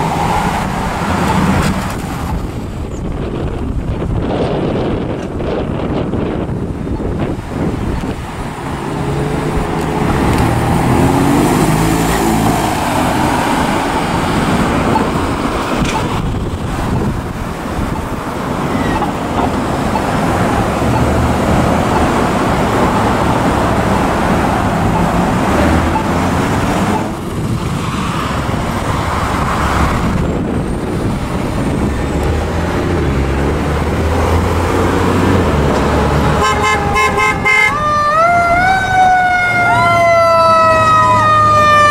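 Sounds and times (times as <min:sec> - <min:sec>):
cars and trucks driving by: 0:00.0 - 0:41.9.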